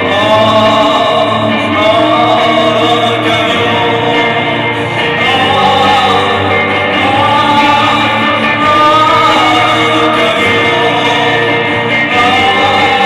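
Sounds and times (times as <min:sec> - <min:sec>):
electric guitar sustained tones: 0:00.0 - 0:13.0
man singing long notes: 0:00.0 - 0:13.0.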